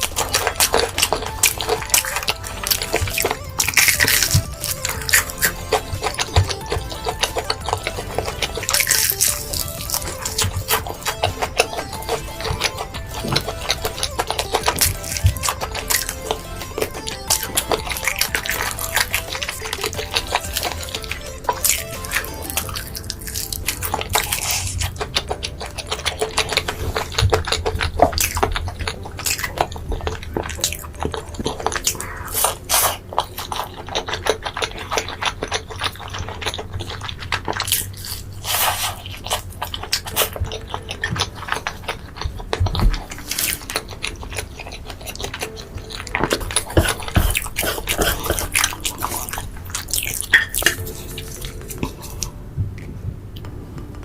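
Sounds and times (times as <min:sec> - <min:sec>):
chewing and mouth smacking: 0:00.0 - 0:54.0.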